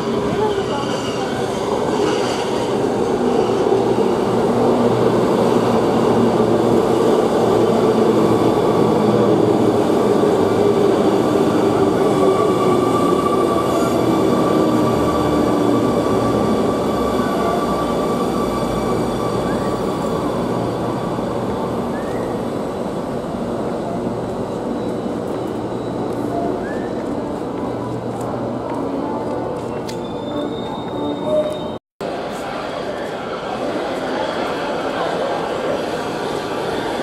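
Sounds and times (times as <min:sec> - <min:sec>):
train rumbling on track: 0:00.0 - 0:37.0.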